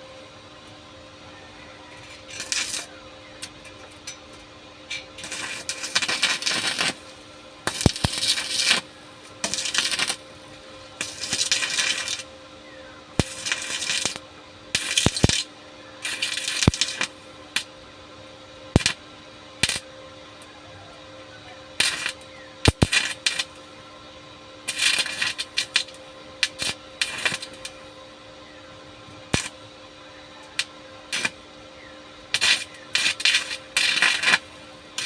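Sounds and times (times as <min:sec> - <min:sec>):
arc welding crackling: 0:00.0 - 0:24.0, 0:24.6 - 0:35.0
faint electrical hum: 0:00.0 - 0:35.0.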